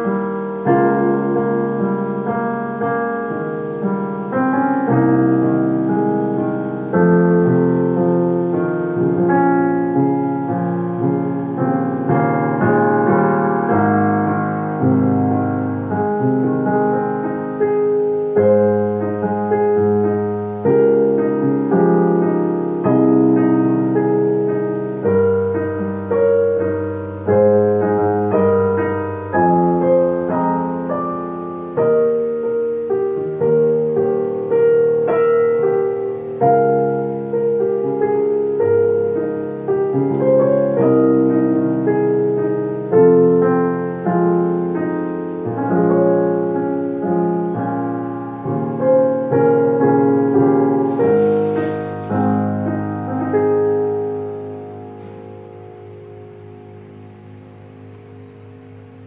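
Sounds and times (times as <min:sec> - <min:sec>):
piano chords and melody: 0:00.0 - 0:59.0.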